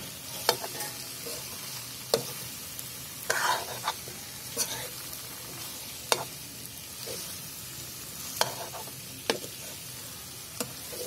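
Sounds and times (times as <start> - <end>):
frying sizzle: 0.0 - 11.0.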